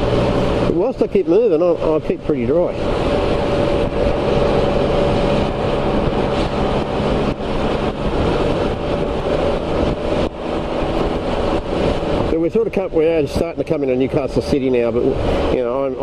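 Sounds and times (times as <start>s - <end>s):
engine humming at cruise: 0.0s - 16.0s
rain noise: 0.0s - 16.0s
wind noise: 0.0s - 16.0s.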